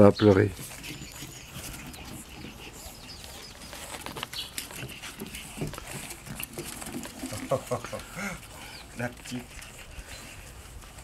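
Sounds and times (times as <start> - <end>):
puppies making little noises: 0.2 - 11.0.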